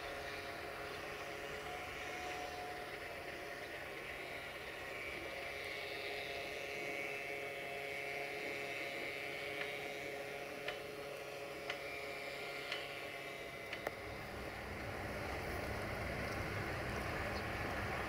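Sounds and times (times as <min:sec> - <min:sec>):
locomotive engine hum and whine: 0:00.0 - 0:18.0.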